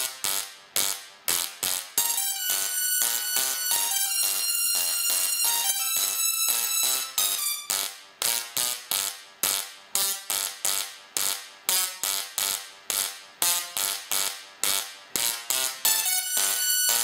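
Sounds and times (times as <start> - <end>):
singing tesla coil buzzy notes: 0.0 - 17.0.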